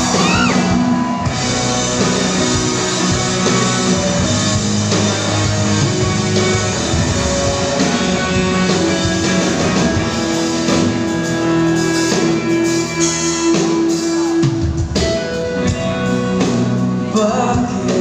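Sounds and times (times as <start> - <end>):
bass guitar: 0.0 - 18.0
drums: 0.0 - 18.0
electric guitar: 0.0 - 18.0.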